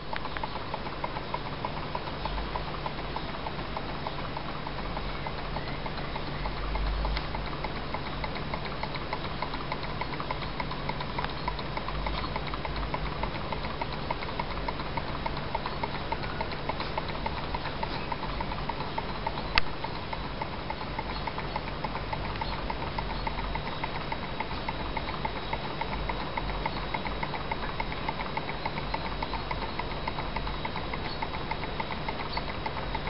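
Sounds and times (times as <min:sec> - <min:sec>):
small engine fast light ticking: 0:00.0 - 0:33.0.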